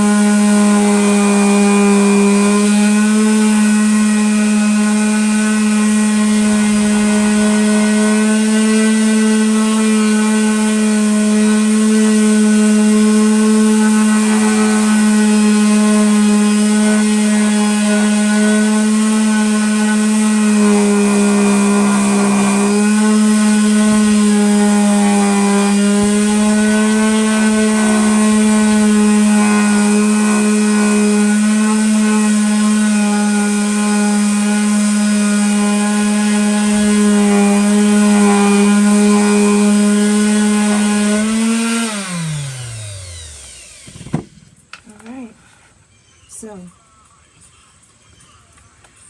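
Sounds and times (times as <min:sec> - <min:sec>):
electric sander motor whine: 0:00.0 - 0:44.5.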